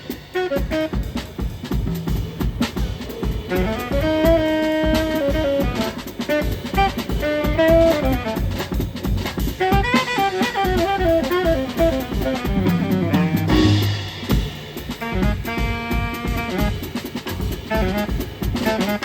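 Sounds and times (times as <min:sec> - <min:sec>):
saxophone melody: 0:00.0 - 0:01.7, 0:03.5 - 0:14.2, 0:14.8 - 0:19.0
jazz band playing: 0:00.0 - 0:19.0.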